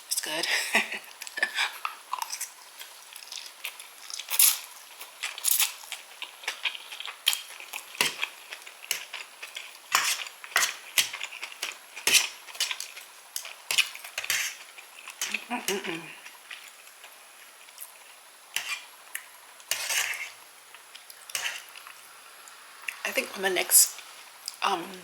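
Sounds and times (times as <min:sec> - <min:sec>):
person chewing food: 0:01.2 - 0:15.5, 0:16.1 - 0:23.0.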